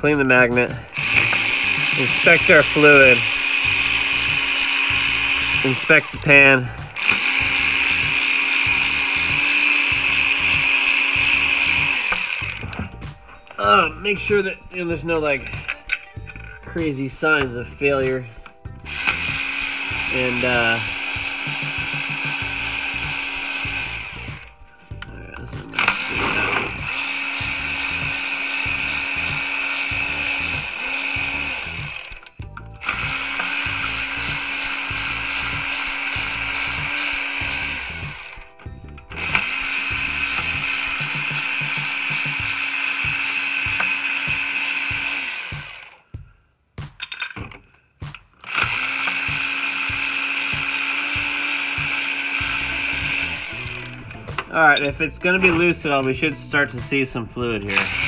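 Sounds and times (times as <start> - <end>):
power ratchet running: 0.0 - 46.1, 48.4 - 55.8, 57.6 - 58.0.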